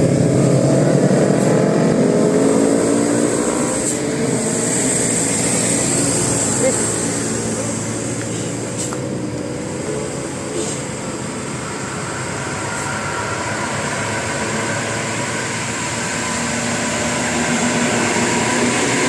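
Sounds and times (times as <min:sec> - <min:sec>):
road traffic rush: 0:00.0 - 0:19.0.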